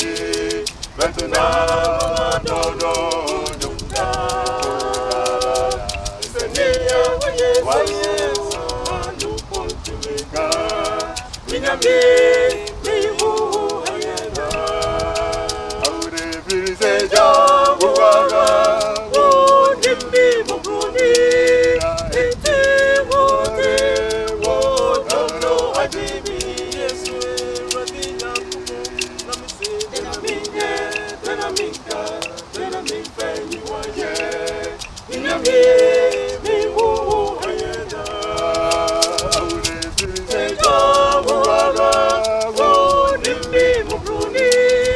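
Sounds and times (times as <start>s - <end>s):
gospel singing voices: 0.0s - 44.9s
rattling percussion beat: 0.0s - 44.9s.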